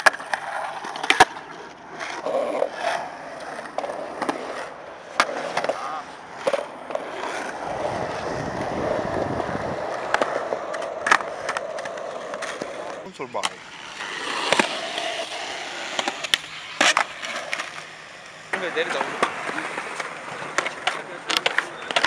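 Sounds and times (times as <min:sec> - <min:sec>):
skateboard clacking: 0:00.0 - 0:22.0
skateboard wheels rolling on concrete: 0:00.0 - 0:22.0.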